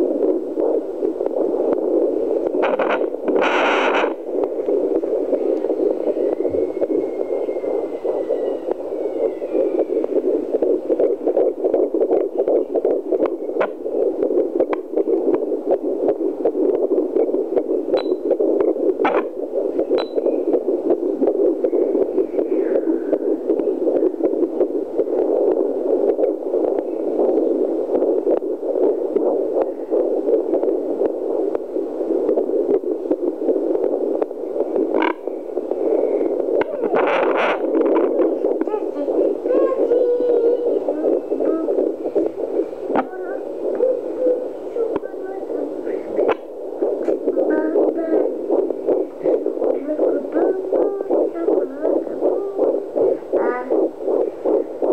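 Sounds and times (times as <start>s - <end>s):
fluctuating static whoosh: 0.0s - 54.9s.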